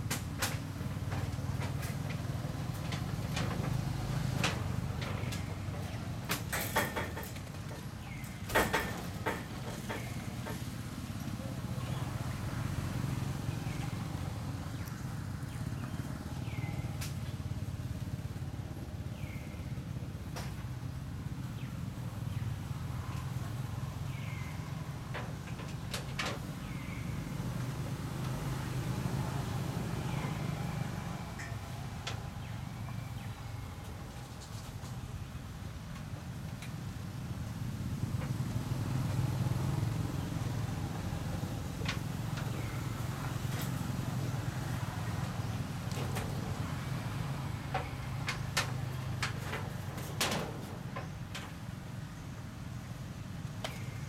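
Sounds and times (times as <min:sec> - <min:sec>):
passing vehicle engine rumble: 0:00.0 - 0:54.0.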